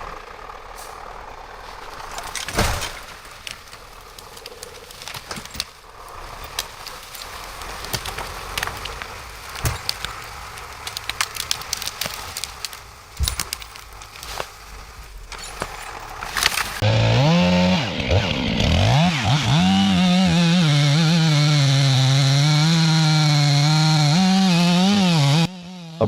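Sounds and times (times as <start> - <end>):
wood cracking and splintering: 0.0 - 25.8.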